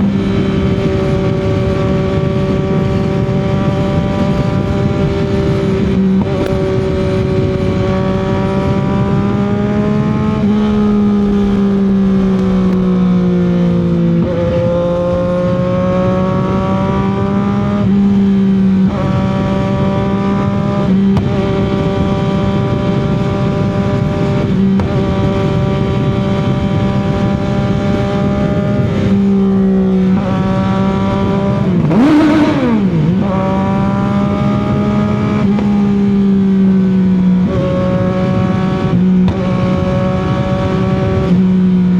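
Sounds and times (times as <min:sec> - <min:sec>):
motorcycle engine cruising: 0:00.0 - 0:41.9
wind and road noise: 0:00.0 - 0:41.9.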